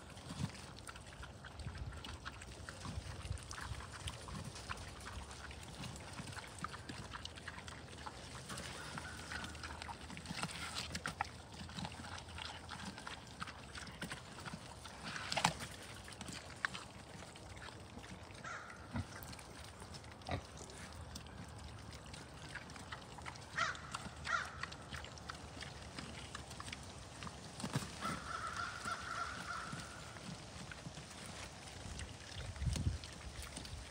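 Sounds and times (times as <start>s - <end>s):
pigs chewing and crunching: 0.0s - 33.9s.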